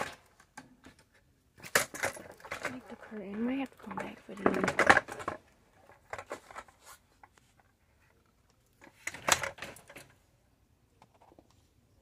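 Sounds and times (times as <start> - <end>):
rustling: 0.0 - 10.4.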